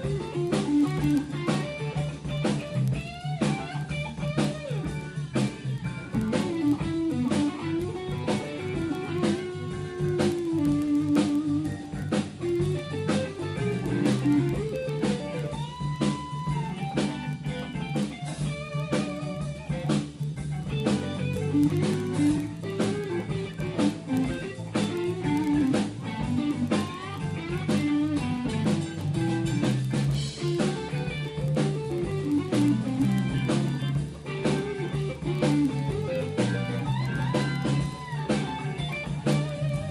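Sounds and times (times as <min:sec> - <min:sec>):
bass: 0:00.0 - 0:39.9
drum beat: 0:00.0 - 0:39.9
electric guitar lead lines: 0:00.0 - 0:39.9.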